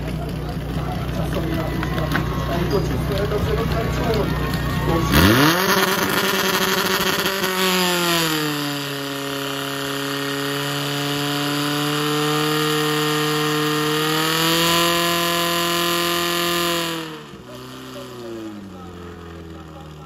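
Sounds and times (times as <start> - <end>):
pump engine running at high revs: 0.0 - 20.0.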